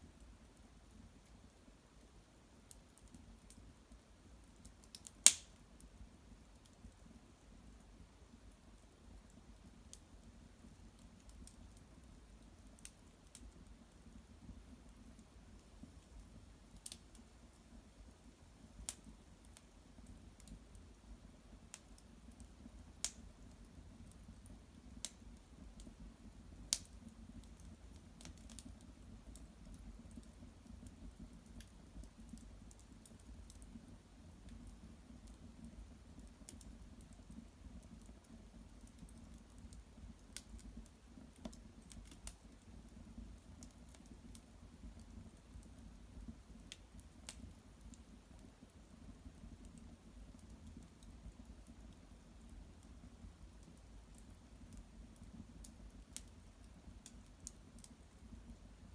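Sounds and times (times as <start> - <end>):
wood fire crackling: 0.0 - 58.9
sharp pops from fire: 4.4 - 7.9, 8.8 - 20.9, 21.6 - 58.3.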